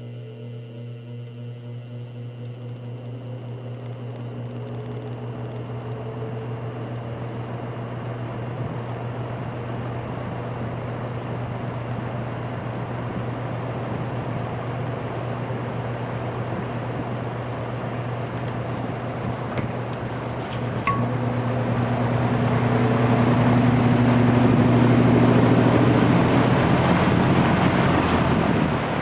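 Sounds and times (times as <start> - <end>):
fan motor hum: 0.0 - 29.0
fan air rushing: 3.3 - 29.0.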